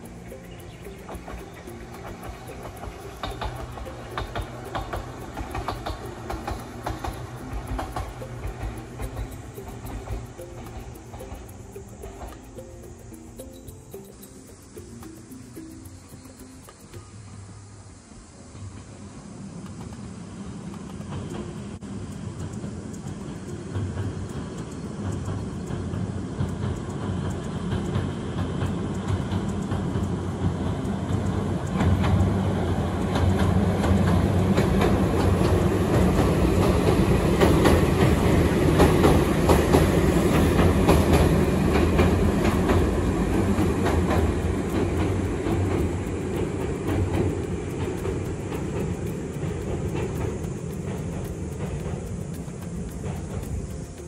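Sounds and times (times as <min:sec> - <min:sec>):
train wheels rumbling on steel bridge: 0:00.0 - 0:17.4, 0:18.6 - 0:54.0.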